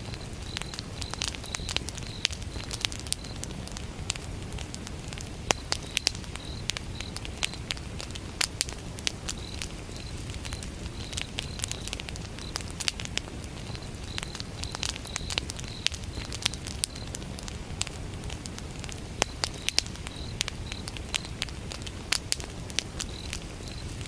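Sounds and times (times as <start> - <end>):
crickets chirping: 0.0 - 24.0
wood fire crackling: 0.0 - 24.0.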